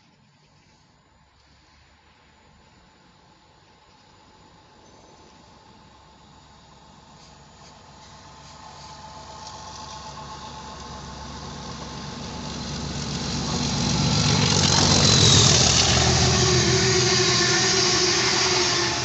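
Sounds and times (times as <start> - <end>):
diesel locomotive approaching: 0.1 - 19.0.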